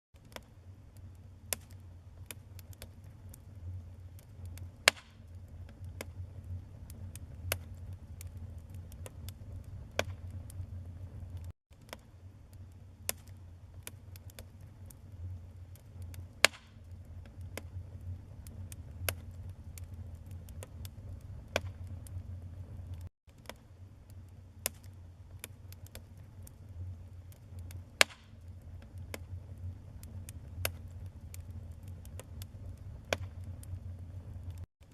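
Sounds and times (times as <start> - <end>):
low steady rumble: 0.2 - 34.9
wood fire crackling and popping: 0.2 - 34.9.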